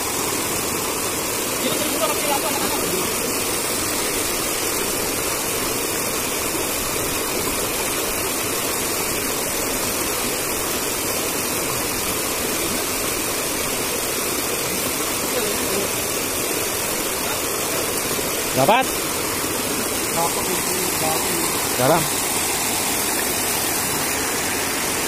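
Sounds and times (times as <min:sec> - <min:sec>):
stream pouring over boulders: 0:00.0 - 0:25.0.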